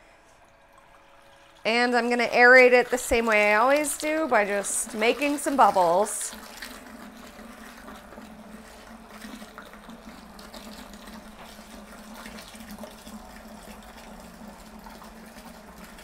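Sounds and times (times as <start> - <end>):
liquid pouring and splashing: 0.0 - 16.0
pump humming: 0.0 - 16.0.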